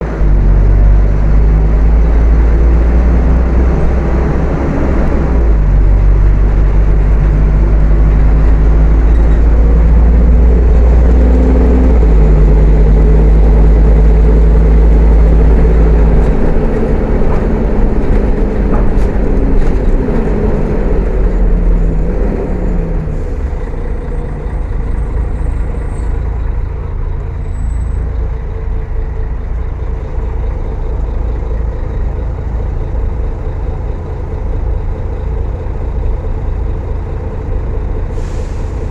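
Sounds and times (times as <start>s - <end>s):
bus diesel engine under load: 0.0s - 38.9s.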